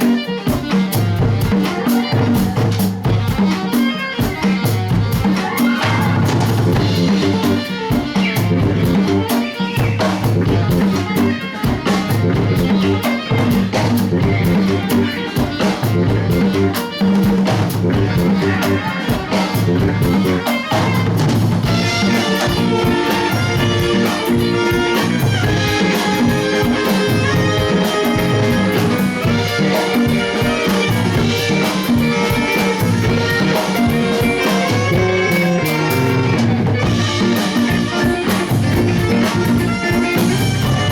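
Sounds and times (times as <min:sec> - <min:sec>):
drum kit beat: 0:00.0 - 0:40.9
live band playing: 0:00.0 - 0:40.9.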